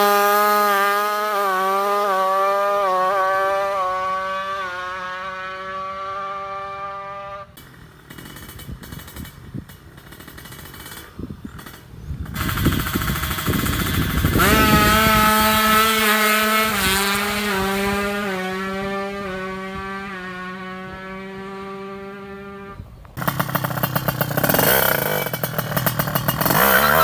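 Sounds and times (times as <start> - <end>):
two-stroke motorcycle engine revving: 0.0 - 27.0.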